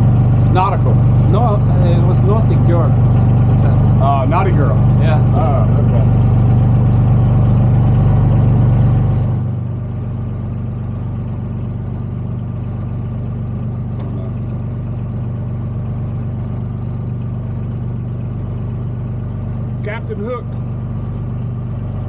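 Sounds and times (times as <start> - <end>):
motorboat engine humming: 0.0 - 22.0.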